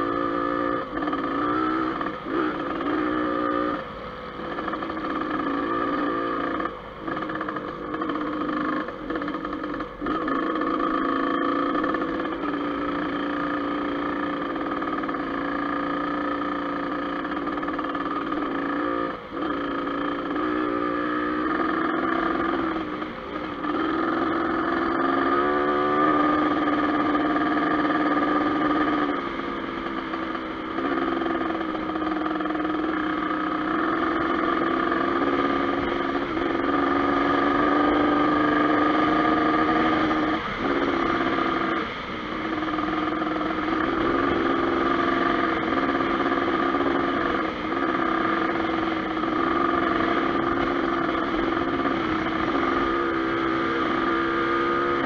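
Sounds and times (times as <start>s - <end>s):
dirt bike engine revving: 0.0s - 3.8s, 4.4s - 55.0s.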